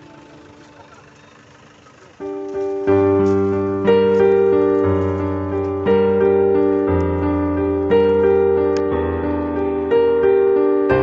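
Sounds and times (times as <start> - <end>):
electronic keyboard chords: 2.2 - 11.0.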